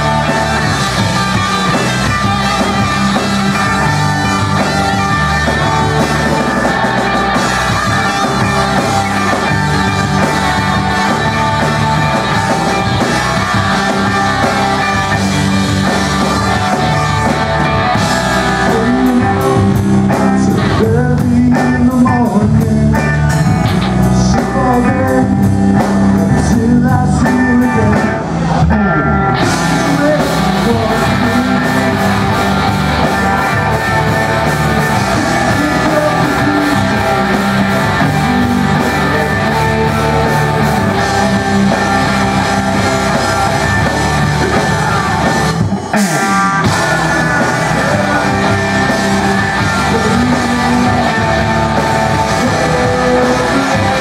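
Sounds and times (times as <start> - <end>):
distorted electric guitars: 0.0 - 54.0
drum kit: 0.0 - 54.0
electric bass: 0.0 - 54.0
sung vocals: 0.0 - 54.0.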